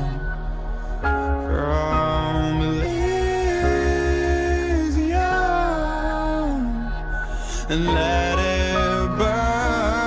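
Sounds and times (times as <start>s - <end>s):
pulsing low bass: 0.0s - 10.0s.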